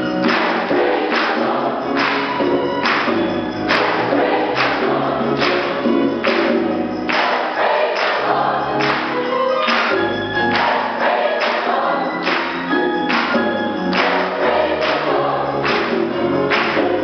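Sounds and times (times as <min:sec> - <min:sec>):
choir singing: 0:00.0 - 0:17.0
sharp rhythmic accents: 0:00.0 - 0:17.0.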